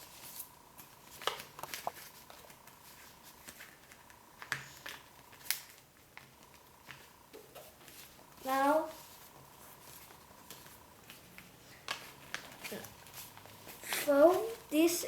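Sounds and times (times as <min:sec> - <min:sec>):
paper folding and crinkling: 0:00.0 - 0:15.0.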